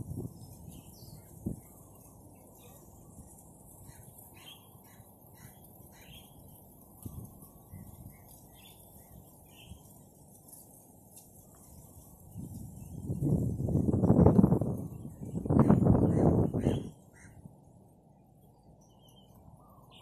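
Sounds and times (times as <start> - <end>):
faint birds chirping: 0.0 - 20.0
low steady background noise: 0.0 - 20.0.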